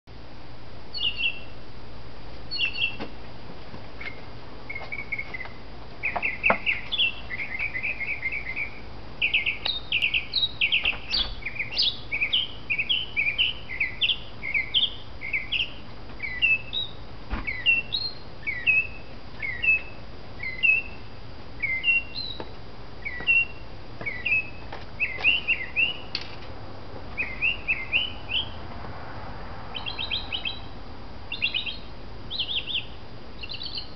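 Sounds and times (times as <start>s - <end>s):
mockingbird singing: 0.9s - 1.6s, 2.5s - 3.0s, 4.0s - 26.2s, 27.2s - 28.6s, 29.7s - 33.9s.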